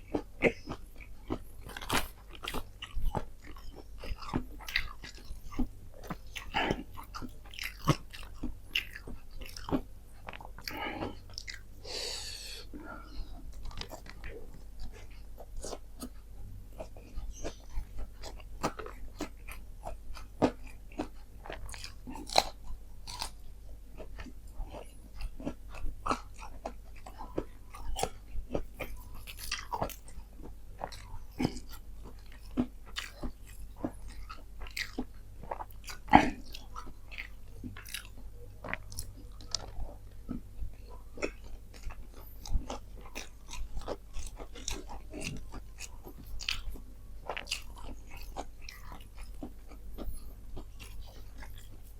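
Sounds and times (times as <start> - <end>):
chewing crispy fried chicken: 0.0 - 51.9.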